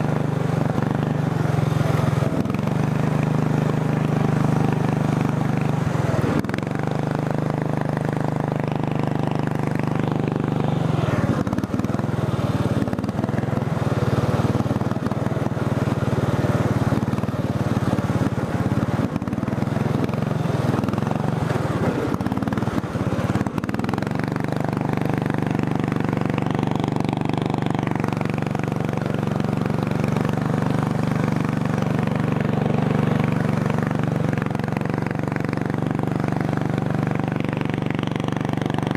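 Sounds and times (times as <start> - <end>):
lawn mower engine revving: 0.0 - 38.9.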